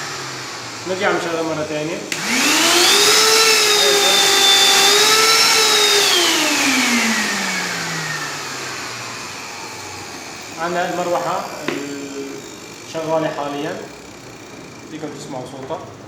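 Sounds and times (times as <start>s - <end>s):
vacuum cleaner motor whining: 0.0s - 16.0s.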